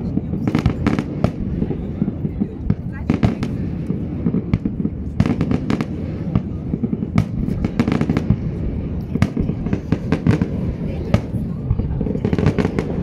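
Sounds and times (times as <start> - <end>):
fireworks cracks and bangs: 0.0 - 13.0
steady low rumble: 1.0 - 13.0.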